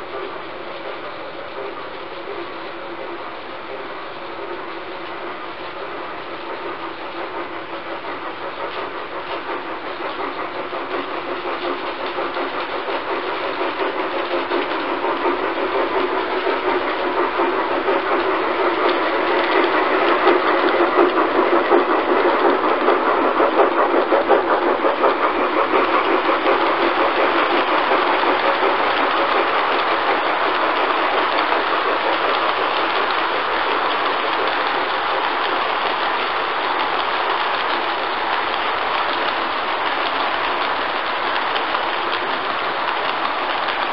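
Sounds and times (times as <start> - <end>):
model train rumbling on track: 0.0 - 43.9
wheels clicking over rails: 0.0 - 43.9.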